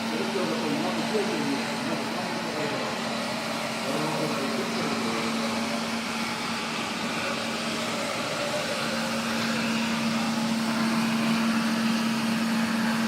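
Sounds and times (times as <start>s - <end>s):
floor cleaning machine motor hum: 0.0s - 13.0s.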